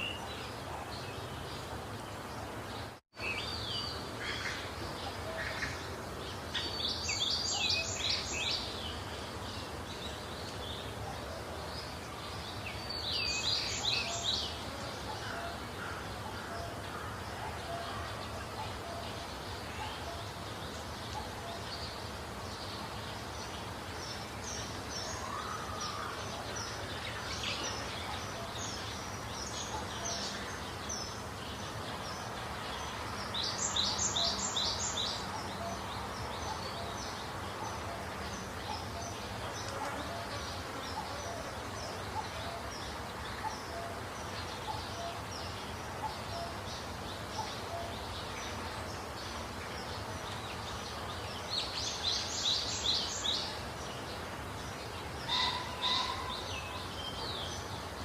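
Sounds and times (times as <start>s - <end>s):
background noise: 0.0s - 58.0s
small birds chirping: 0.0s - 58.0s.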